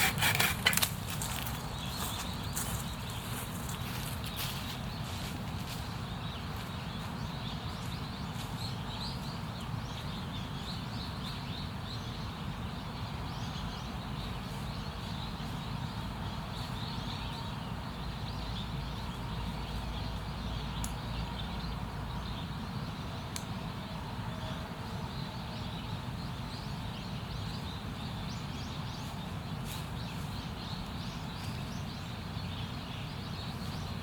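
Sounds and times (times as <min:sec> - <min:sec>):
small birds chirping: 0:00.0 - 0:24.5, 0:25.1 - 0:34.0.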